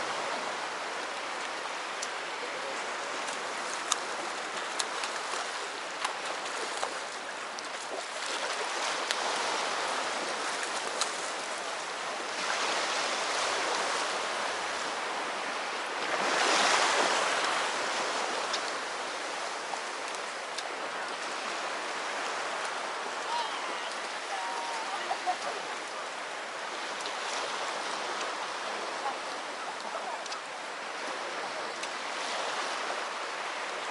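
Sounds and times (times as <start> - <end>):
sea waves washing on shore: 0.0 - 33.9.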